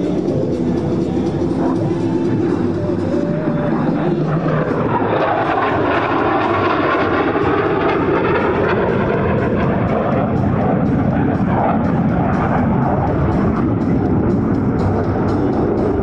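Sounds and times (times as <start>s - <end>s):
jet flying past: 0.0s - 16.0s.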